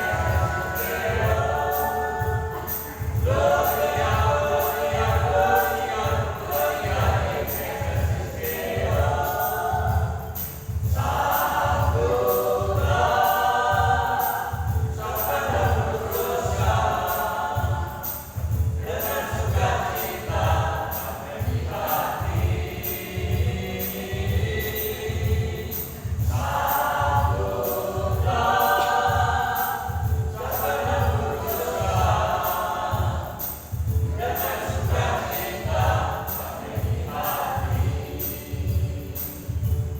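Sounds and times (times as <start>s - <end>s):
accompaniment with low beat: 0.0s - 39.9s
choir singing a hymn: 0.0s - 39.9s.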